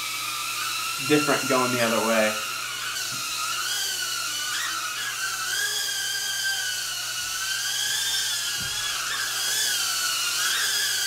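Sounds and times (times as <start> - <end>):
small drone motor whine: 0.0 - 11.0.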